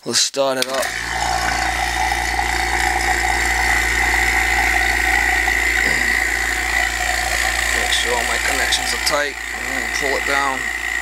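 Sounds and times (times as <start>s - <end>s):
vacuum pump motor running: 0.7s - 11.0s.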